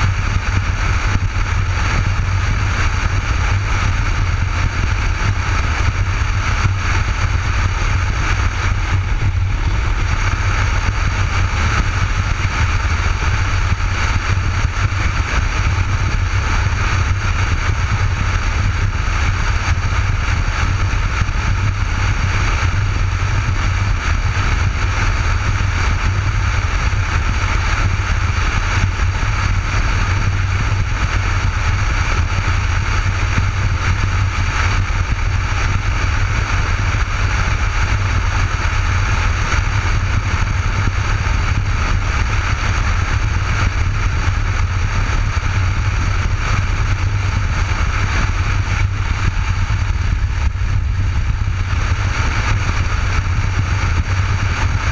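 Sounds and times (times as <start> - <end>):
motorcycle engine low rumble: 0.0 - 54.9
wind rush: 0.0 - 54.9.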